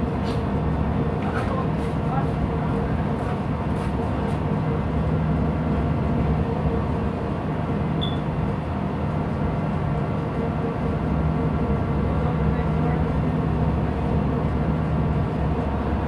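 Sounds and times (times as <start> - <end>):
ship machinery drone: 0.0 - 16.0.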